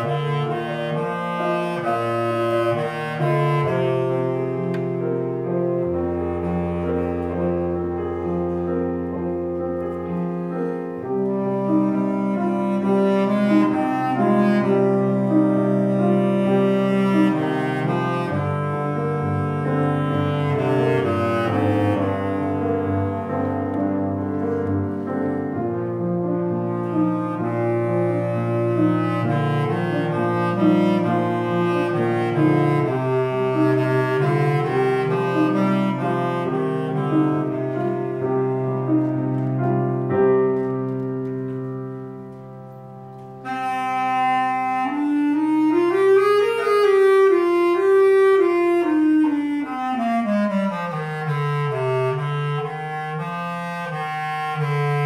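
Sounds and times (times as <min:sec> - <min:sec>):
bass clarinet playing: 0:00.0 - 0:40.6, 0:43.4 - 0:55.0
grand piano accompaniment: 0:00.0 - 0:55.0.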